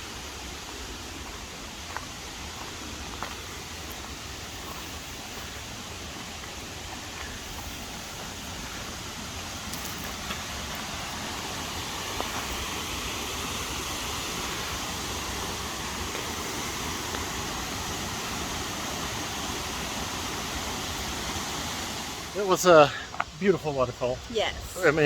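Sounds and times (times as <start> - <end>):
waterfall roaring: 0.0 - 22.9.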